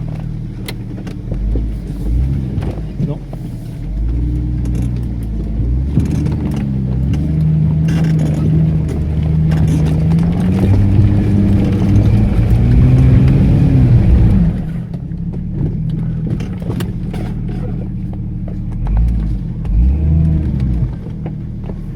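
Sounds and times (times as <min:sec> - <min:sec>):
off-road engine revving hard: 0:00.0 - 0:21.9.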